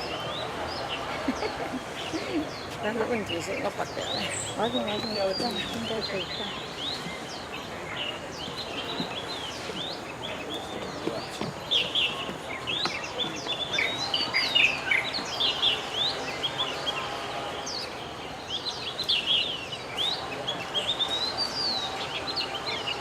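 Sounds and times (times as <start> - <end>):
birds chirping and calling: 0.0 - 23.0.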